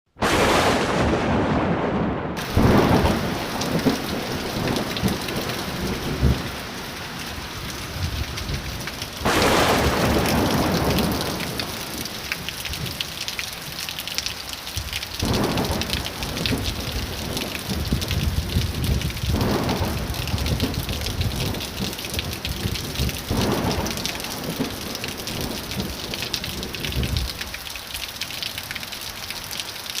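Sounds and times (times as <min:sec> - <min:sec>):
thunder rumbling: 0:00.2 - 0:13.8, 0:14.8 - 0:27.6
heavy rain falling: 0:00.2 - 0:30.0.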